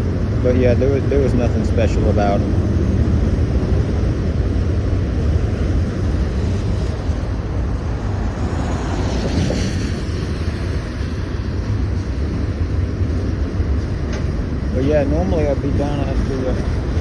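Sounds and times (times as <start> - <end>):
freight train cars rolling past: 0.0 - 17.0
wind noise on microphone: 0.0 - 17.0.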